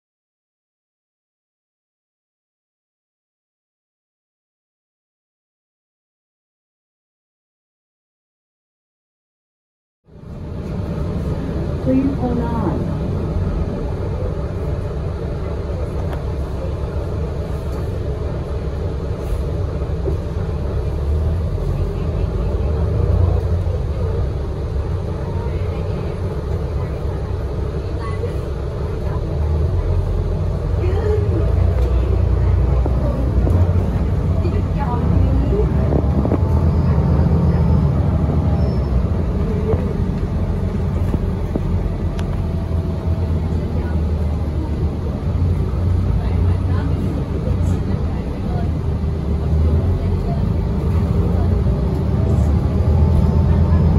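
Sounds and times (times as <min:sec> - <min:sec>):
bus engine and road noise: 0:10.1 - 0:53.9.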